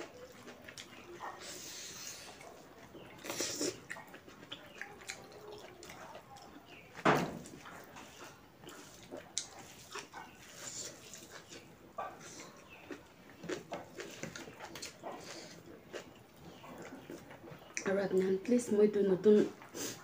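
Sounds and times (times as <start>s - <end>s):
person chewing and smacking: 0.0s - 17.9s.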